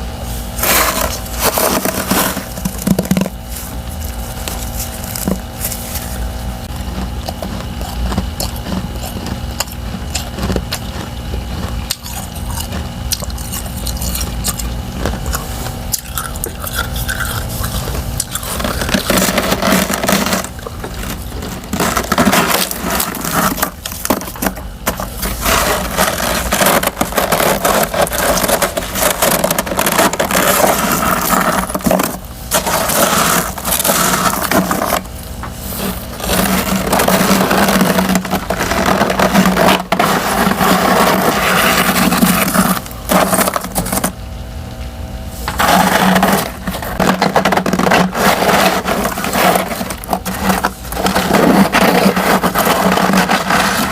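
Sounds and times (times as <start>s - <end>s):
steady hum: 0.0s - 53.9s
frost chunks crunching: 0.4s - 44.2s, 45.4s - 53.9s.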